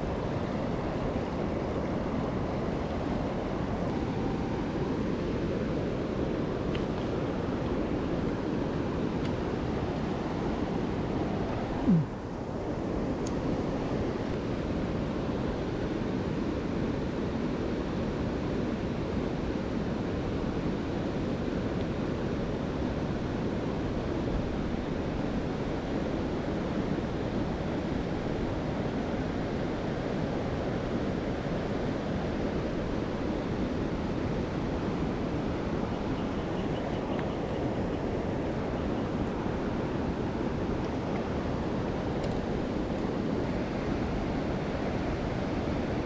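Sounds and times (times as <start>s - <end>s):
mountain stream rushing: 0.0s - 46.0s.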